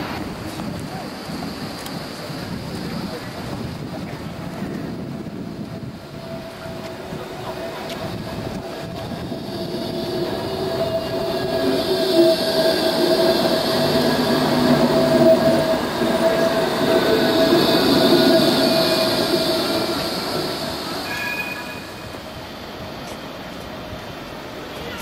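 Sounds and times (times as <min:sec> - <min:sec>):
tram passing with whine: 0:00.0 - 0:25.0.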